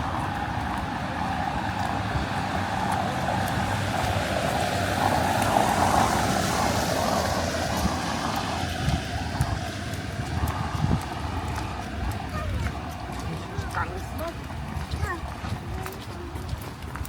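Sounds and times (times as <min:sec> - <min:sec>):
steady low rumble: 0:00.0 - 0:16.9
vehicle passing on wet street: 0:00.0 - 0:17.0.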